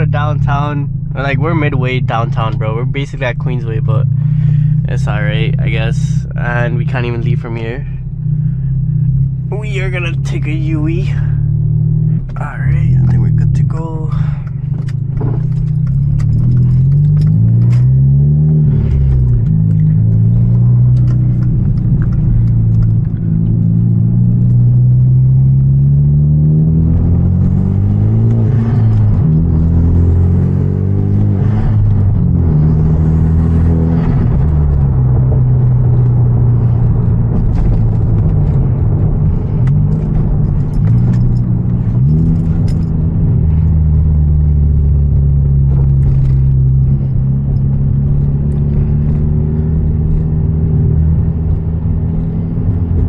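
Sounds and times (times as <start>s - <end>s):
car engine revving through gears: 0.0s - 53.0s.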